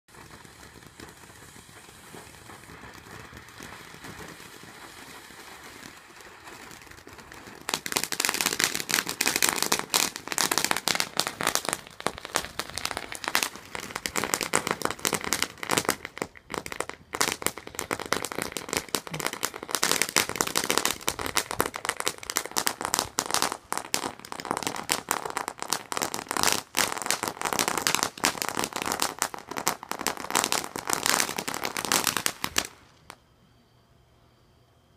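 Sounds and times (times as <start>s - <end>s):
firecrackers popping: 0.1s - 33.3s
steady hiss: 0.1s - 34.9s.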